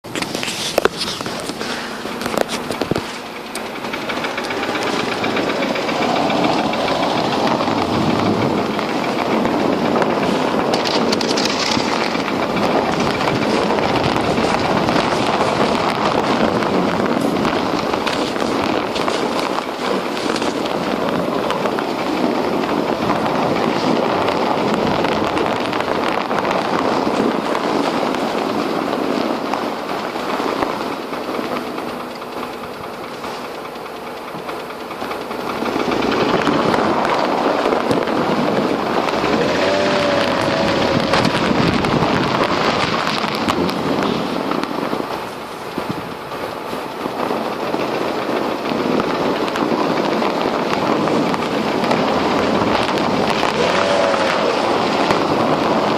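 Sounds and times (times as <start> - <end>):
engine knocking rattle: 0.0 - 55.9.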